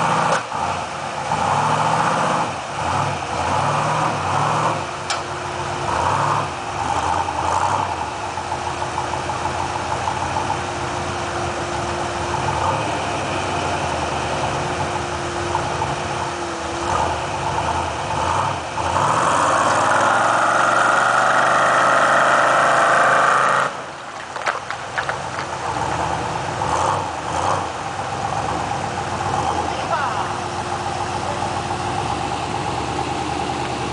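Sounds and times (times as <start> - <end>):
truck engine running and revving: 0.0 - 33.9.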